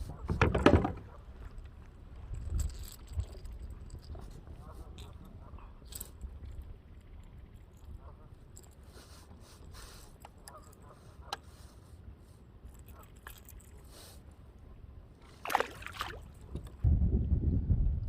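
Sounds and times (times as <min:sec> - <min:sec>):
kayak paddle in water: 0:00.0 - 0:16.8.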